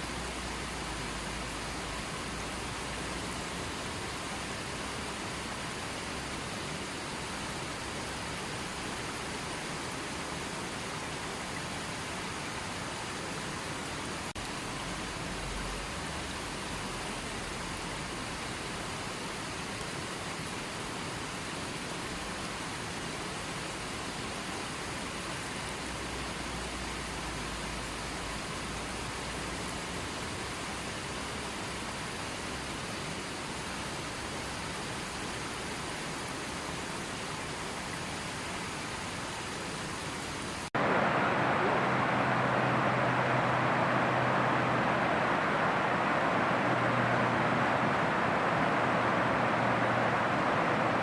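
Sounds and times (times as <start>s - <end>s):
stream rushing over rocks: 0.0s - 51.0s.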